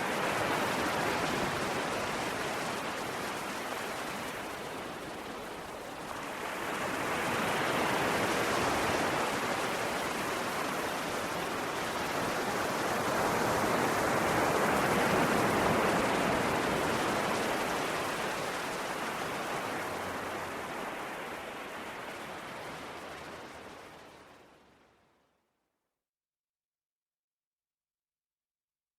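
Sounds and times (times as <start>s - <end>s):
ocean waves washing on shore: 0.0s - 24.8s.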